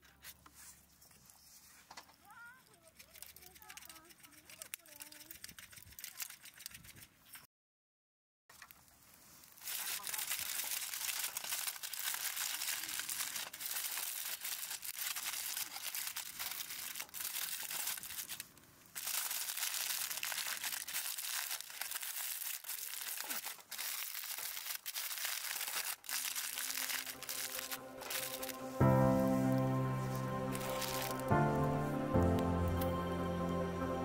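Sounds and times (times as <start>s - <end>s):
aluminium foil crinkling: 1.0s - 7.4s, 8.5s - 32.8s.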